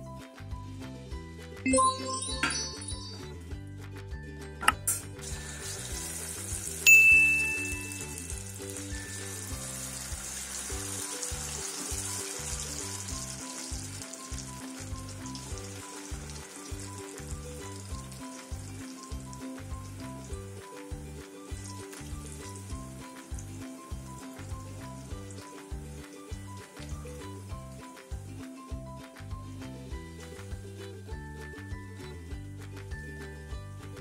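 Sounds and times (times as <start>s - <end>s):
food deep-frying in oil: 4.8s - 32.1s.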